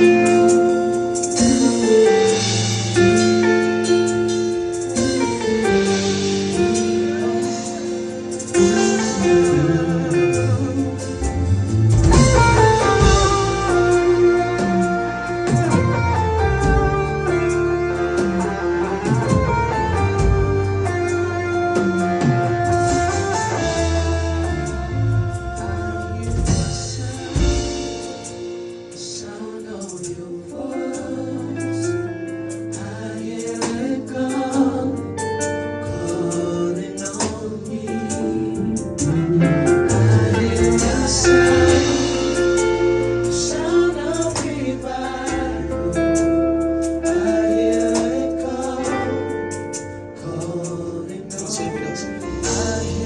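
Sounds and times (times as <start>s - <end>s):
bass line: 0.0s - 28.9s, 38.1s - 53.0s
sustained keyboard chords: 0.0s - 53.0s
voices singing gospel: 0.0s - 53.0s.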